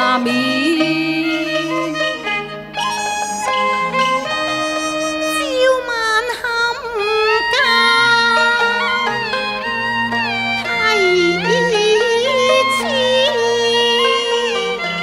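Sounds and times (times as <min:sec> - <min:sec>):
opera instrumental ensemble: 0:00.0 - 0:15.0.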